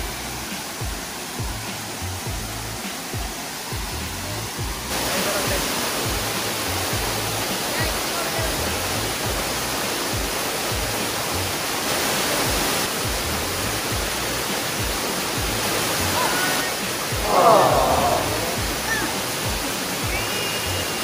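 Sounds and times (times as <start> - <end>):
music with low beat: 0.0 - 11.3, 12.5 - 15.8, 16.8 - 20.2
waterfall rushing: 0.0 - 21.0.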